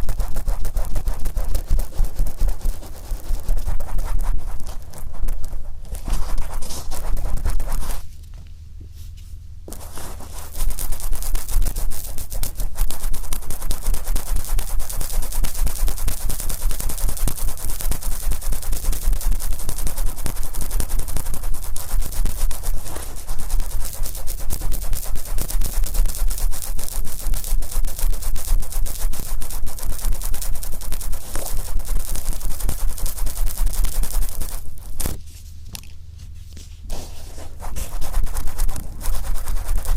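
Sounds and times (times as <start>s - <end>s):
cotton swab rubbing microphone: 0.0s - 8.1s, 9.7s - 35.6s, 36.2s - 39.9s.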